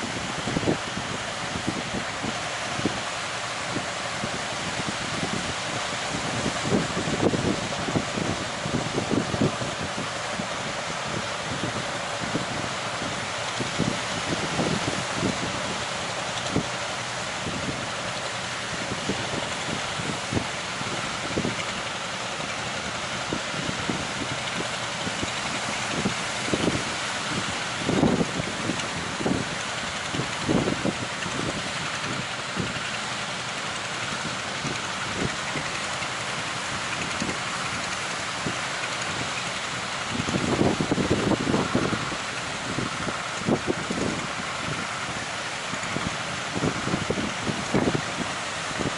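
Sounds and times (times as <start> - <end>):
steady rushing noise: 0.0 - 48.9
wind buffeting microphone: 0.0 - 48.9.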